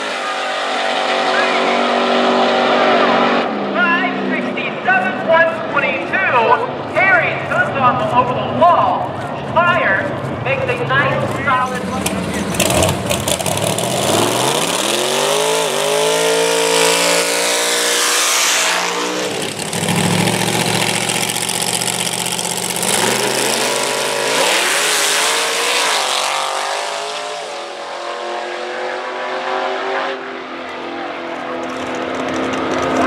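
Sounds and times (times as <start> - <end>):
drag car engine at full throttle: 0.0 - 5.7, 9.1 - 33.0.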